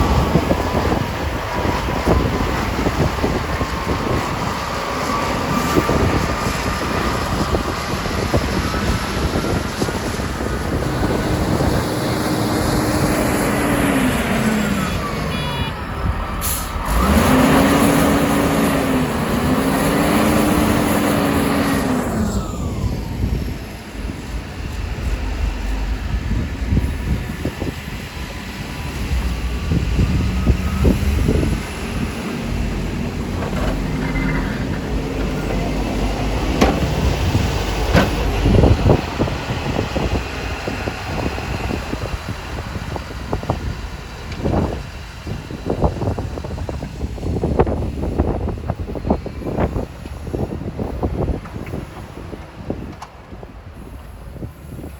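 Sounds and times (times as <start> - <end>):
heavy diesel trucks running: 0.0 - 54.9
snow-removal machinery running: 0.0 - 54.9.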